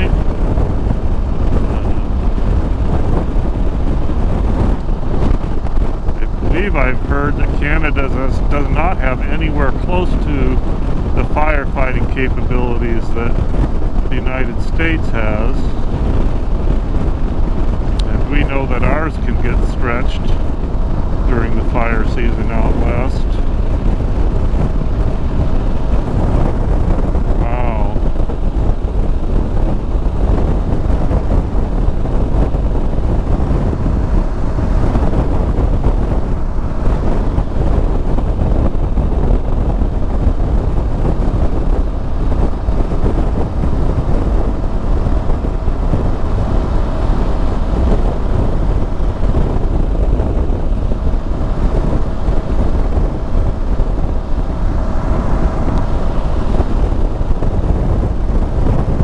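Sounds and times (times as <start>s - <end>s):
motorcycle engine cruising: 0.0s - 59.0s
tyres on road: 0.0s - 59.0s
wind buffeting microphone: 0.0s - 59.0s.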